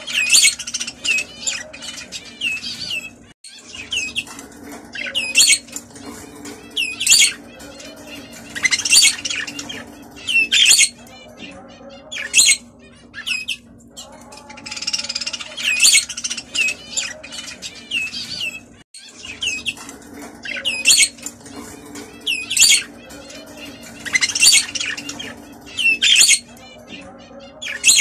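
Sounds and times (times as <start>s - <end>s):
budgerigars chirping and chattering: 0.0s - 28.0s.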